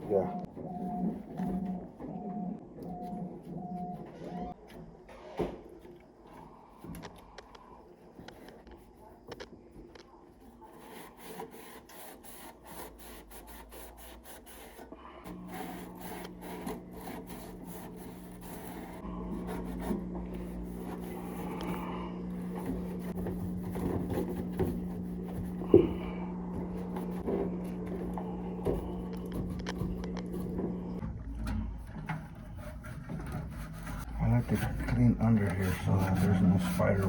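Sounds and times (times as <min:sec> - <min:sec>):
steady electric hum: 0:00.0 - 0:37.0
hand rubbing and scraping: 0:06.2 - 0:37.0.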